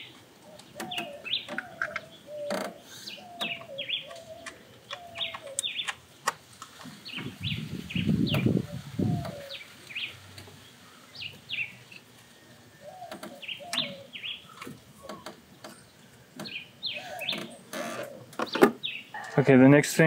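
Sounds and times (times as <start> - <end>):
small birds chirping: 0.0 - 19.4.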